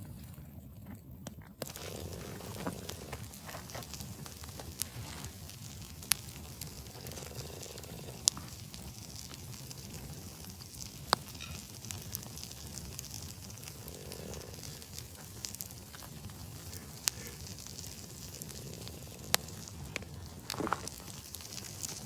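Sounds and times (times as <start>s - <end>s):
campfire crackling: 0.0s - 22.0s
sharp fire pops: 1.6s - 22.0s.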